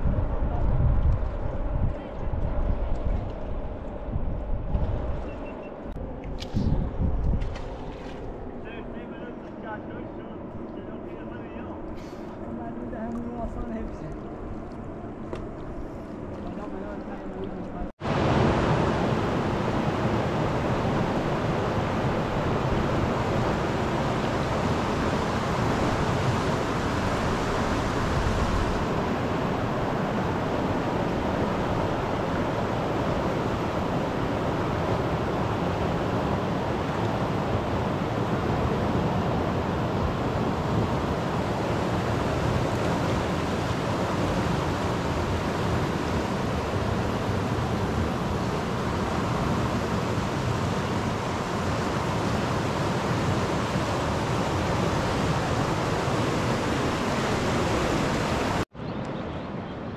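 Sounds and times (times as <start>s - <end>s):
steady rushing noise: 0.0s - 58.7s.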